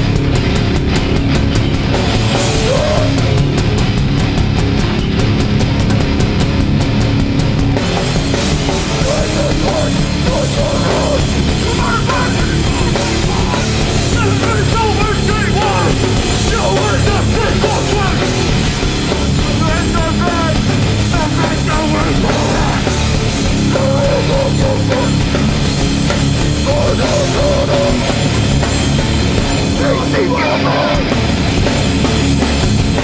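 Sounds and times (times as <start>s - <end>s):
bass guitar: 0.0s - 33.0s
distorted guitars: 0.0s - 33.0s
drums: 0.0s - 33.0s.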